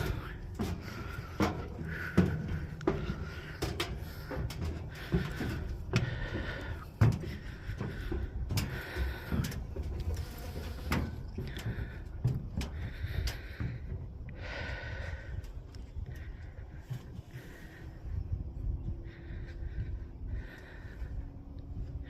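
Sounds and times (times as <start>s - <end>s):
footsteps on stairs: 0.0s - 18.0s
person breathing hard: 0.0s - 22.0s.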